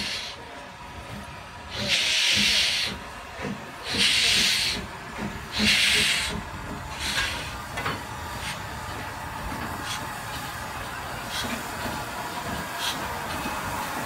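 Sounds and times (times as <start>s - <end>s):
steam locomotive chuffing: 0.0s - 14.0s.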